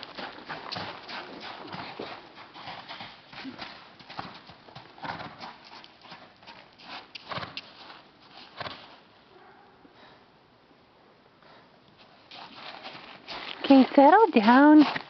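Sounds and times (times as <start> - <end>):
horse hooves thudding on ground: 0.0 - 9.2, 11.9 - 15.0.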